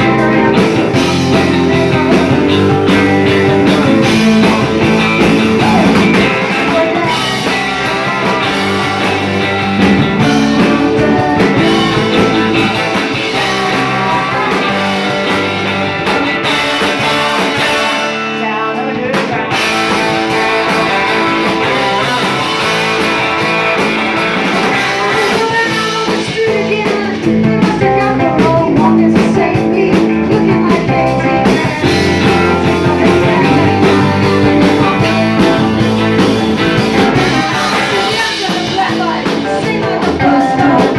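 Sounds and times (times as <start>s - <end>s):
woman singing: 0.0s - 4.7s, 5.4s - 15.6s, 16.2s - 23.2s, 24.6s - 36.1s, 36.9s - 40.9s
drum kit: 0.0s - 40.9s
electric bass: 0.0s - 40.9s
electric guitars: 0.0s - 40.9s.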